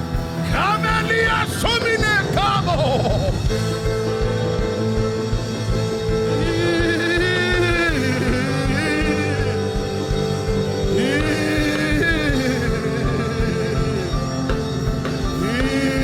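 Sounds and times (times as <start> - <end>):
keyboard chords: 0.0 - 16.0
low drum beat: 0.0 - 16.0
person singing: 0.2 - 16.0.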